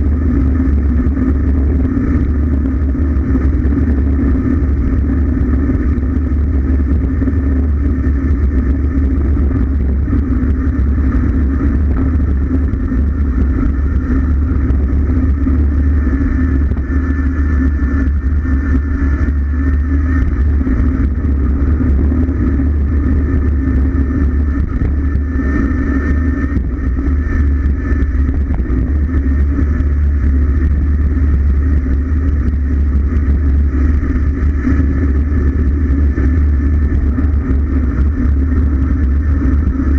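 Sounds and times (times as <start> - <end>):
steady hum: 0.0 - 39.9
wind buffeting microphone: 0.0 - 39.9.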